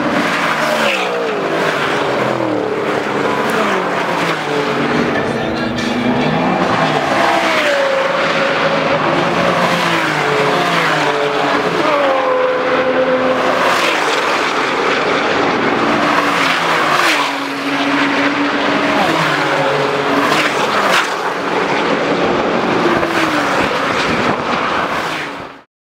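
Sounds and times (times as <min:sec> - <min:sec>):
sports car engines at full throttle: 0:00.0 - 0:25.6.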